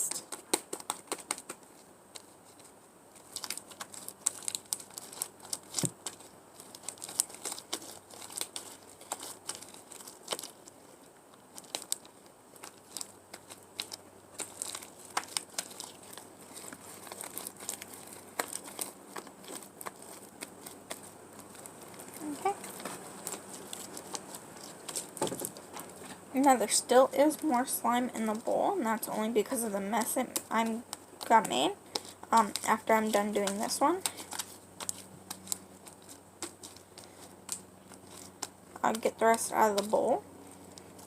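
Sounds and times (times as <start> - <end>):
slime being kneaded by hand: 0.0 - 41.0
sticky crackles and pops: 0.0 - 41.0.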